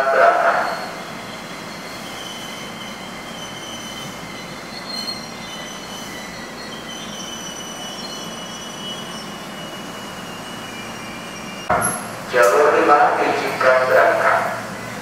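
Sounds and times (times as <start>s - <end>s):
train rumble: 0.0s - 15.0s
train wheels squealing on rails: 0.0s - 15.0s.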